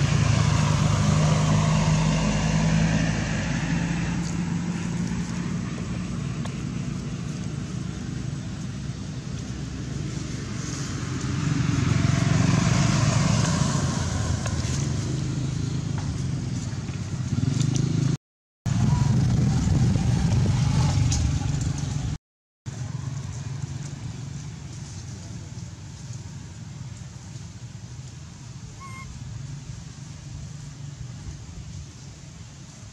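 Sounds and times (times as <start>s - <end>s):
vehicle passing: 0.0s - 26.7s
low traffic rumble: 0.0s - 32.9s.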